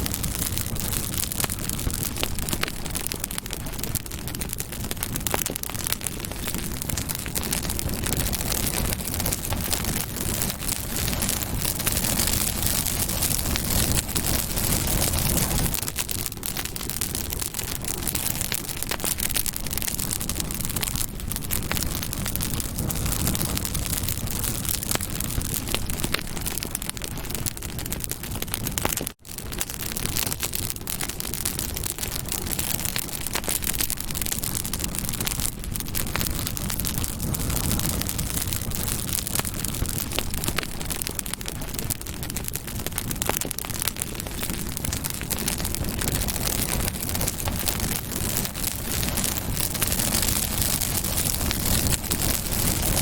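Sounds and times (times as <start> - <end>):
campfire crackling and popping: 0.0 - 53.0
rush of flame: 0.0 - 53.0.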